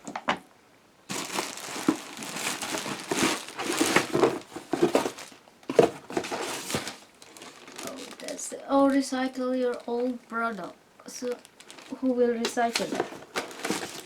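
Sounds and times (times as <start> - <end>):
packaging crinkling: 1.1 - 10.4, 11.1 - 14.0.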